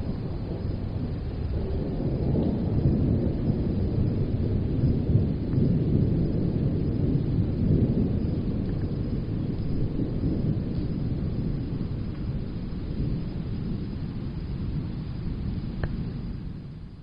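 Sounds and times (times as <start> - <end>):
distant thunder rumble: 0.0 - 17.0.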